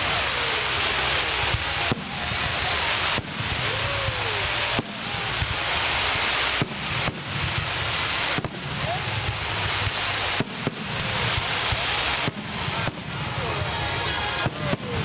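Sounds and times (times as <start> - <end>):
continuous hiss: 0.0 - 15.0
fireworks bangs: 0.0 - 15.0.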